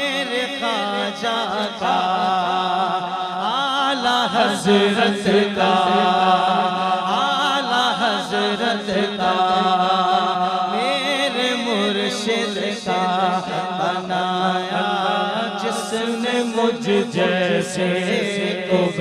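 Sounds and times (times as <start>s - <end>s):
man singing into microphone: 0.0s - 19.0s.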